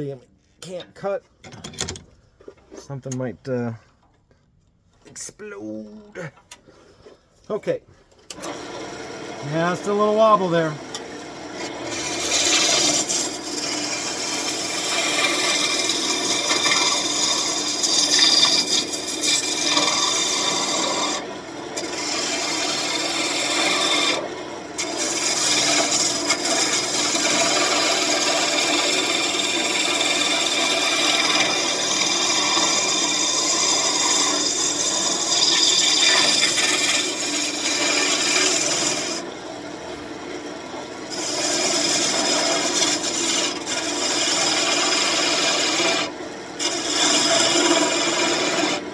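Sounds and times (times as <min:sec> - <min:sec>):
gouge scraping wood on lathe: 0:08.4 - 0:39.3, 0:40.1 - 0:48.9.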